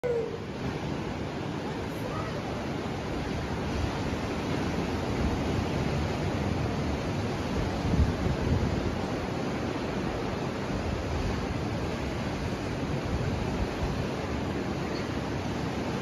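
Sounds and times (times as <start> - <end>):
ocean surf: 0.0 - 16.0
wind on microphone: 0.0 - 16.0.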